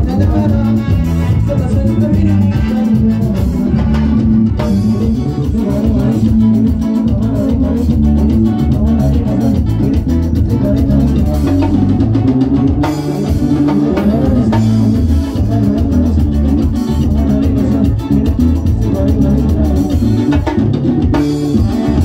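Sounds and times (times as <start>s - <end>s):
band playing dance tune: 0.0s - 22.0s.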